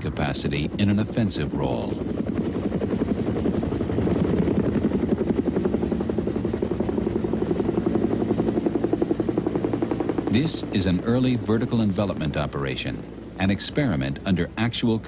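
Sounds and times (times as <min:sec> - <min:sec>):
helicopter rotor beating: 0:00.0 - 0:15.0
low engine drone: 0:00.0 - 0:15.0.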